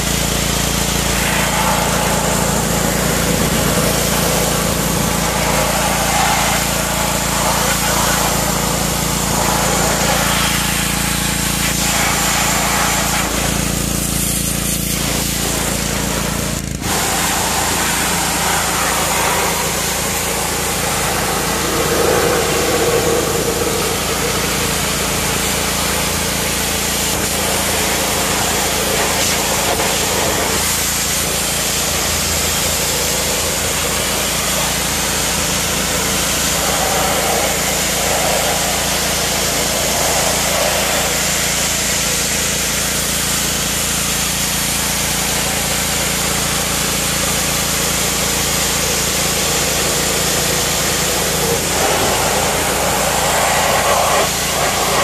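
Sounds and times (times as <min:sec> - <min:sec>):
pressure washer motor humming: 0:00.0 - 0:55.0
water jet hissing: 0:00.0 - 0:55.0.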